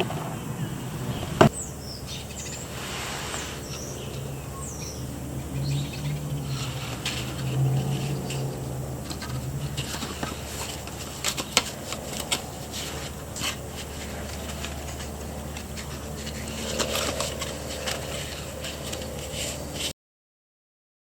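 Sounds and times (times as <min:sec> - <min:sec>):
steady low hum: 0:00.0 - 0:19.9
parts scraping and scratching: 0:01.2 - 0:19.9.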